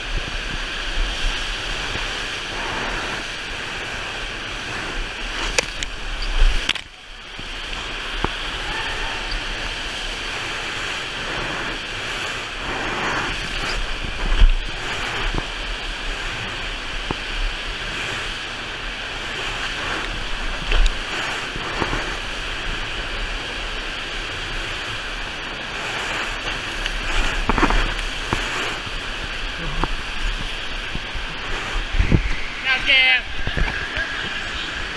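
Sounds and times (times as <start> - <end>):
rushing water of wave machine: 0.0 - 34.9.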